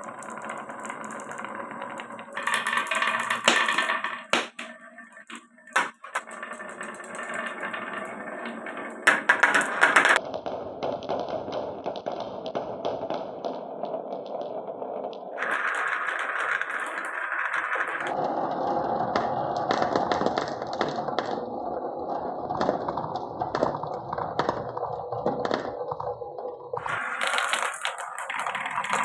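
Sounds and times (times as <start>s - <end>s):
marbles rolling on wooden tracks: 0.0s - 29.0s.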